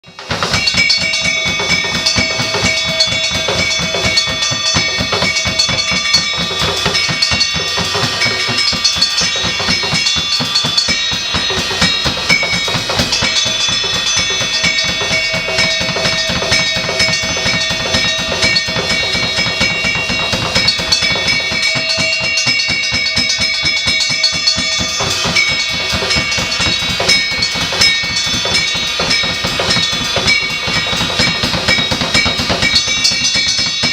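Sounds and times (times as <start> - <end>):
drum kit played fast: 0.0 - 33.9
steady ringing tones: 0.0 - 33.9.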